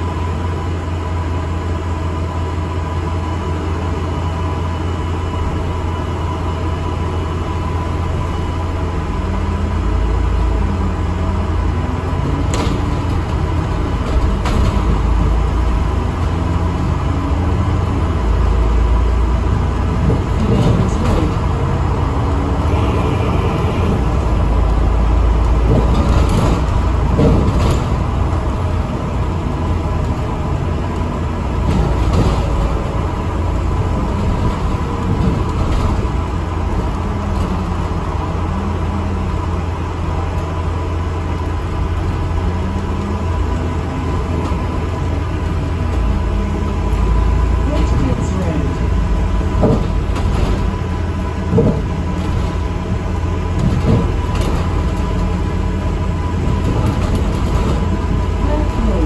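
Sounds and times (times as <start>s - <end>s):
bus engine and road rumble: 0.0s - 59.0s
constant whine: 0.0s - 59.0s.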